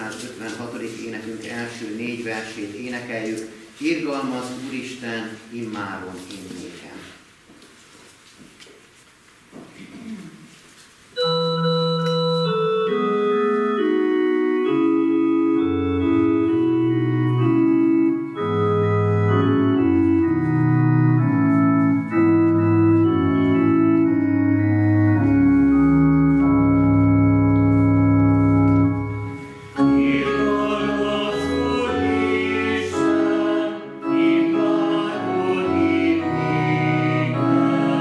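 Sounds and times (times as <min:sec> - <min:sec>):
organ playing hymn chords: 0:00.0 - 0:04.7, 0:11.2 - 0:38.0.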